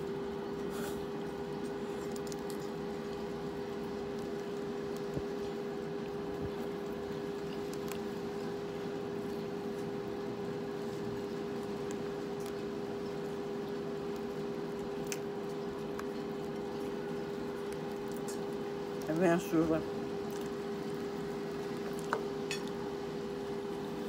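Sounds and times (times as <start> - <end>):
steady mid-pitched hum: 0.0 - 24.0.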